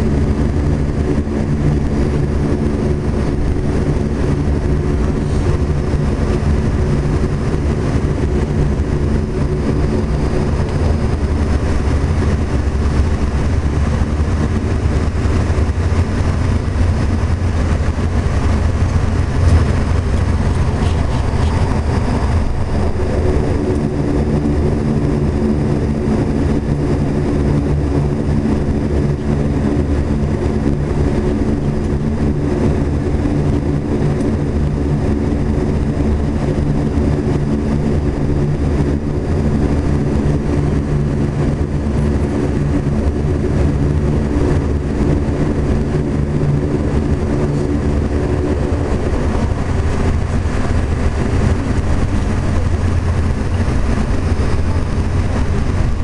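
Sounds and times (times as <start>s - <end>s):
aircraft engine drone: 0.0s - 56.0s
steady humming tones: 0.0s - 56.0s.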